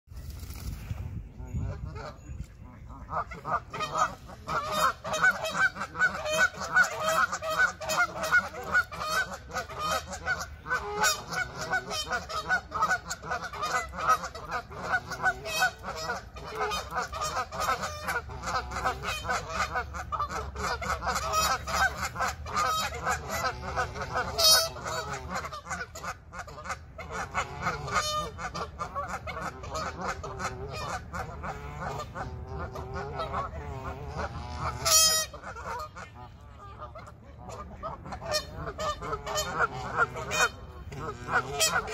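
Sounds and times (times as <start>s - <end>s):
geese honking: 1.3s - 41.9s.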